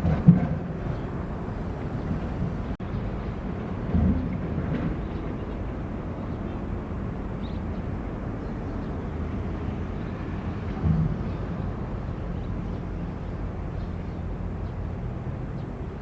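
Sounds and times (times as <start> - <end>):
diesel machinery engine rumble: 0.0 - 16.0.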